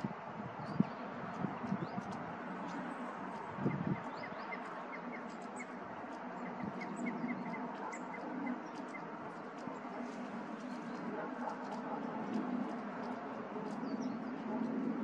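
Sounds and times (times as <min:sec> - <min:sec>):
songbirds chirping: 0:00.0 - 0:15.0
steady background noise: 0:00.0 - 0:15.0.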